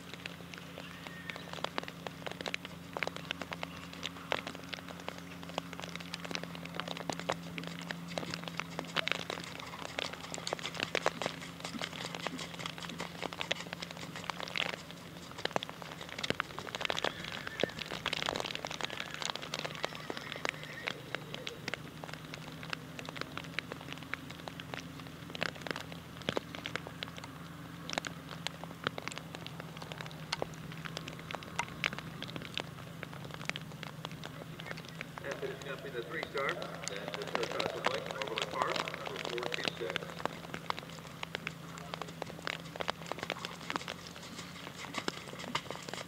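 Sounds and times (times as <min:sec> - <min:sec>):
steady low hum: 0:00.0 - 0:19.7, 0:20.9 - 0:46.0
raindrops pattering: 0:00.0 - 0:46.0.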